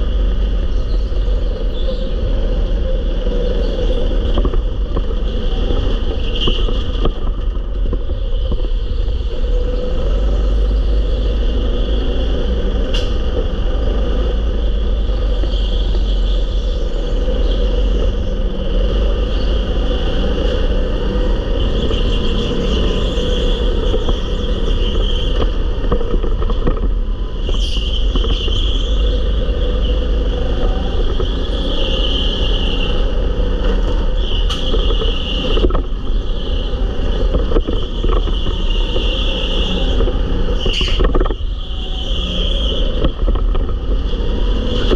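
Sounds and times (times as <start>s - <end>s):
go-kart engine and rolling noise: 0.0s - 44.9s.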